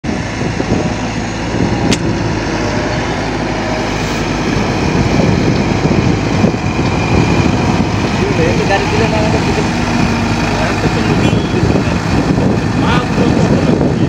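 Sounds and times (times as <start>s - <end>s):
diesel truck driving over dirt: 0.0s - 14.0s.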